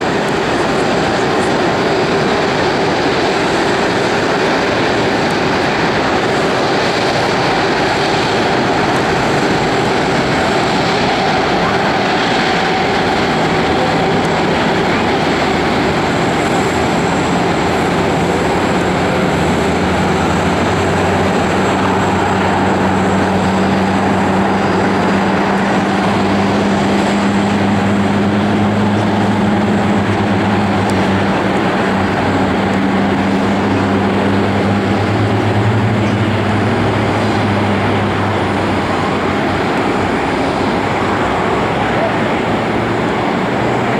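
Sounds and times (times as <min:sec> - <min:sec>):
jet engine noise: 0:00.0 - 0:43.9.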